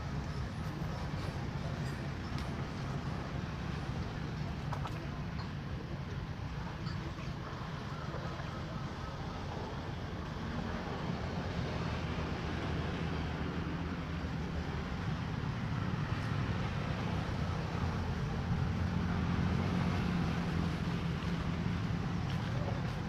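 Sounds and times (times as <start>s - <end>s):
low engine-like hum: 0.0s - 23.0s.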